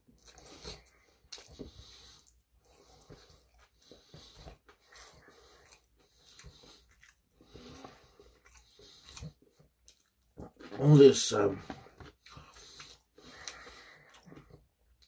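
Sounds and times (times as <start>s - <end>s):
person chewing: 0.0s - 11.0s, 11.6s - 15.0s.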